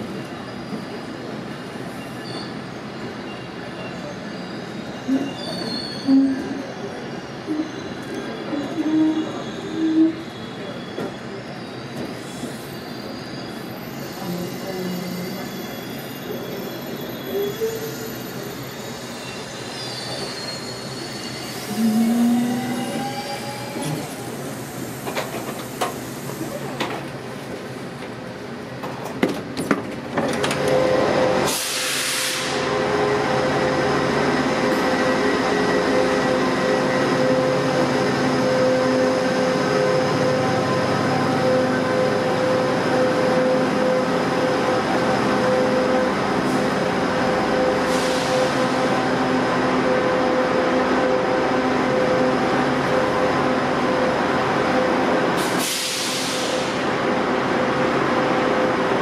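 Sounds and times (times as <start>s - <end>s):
diesel train humming: 0.0s - 59.0s.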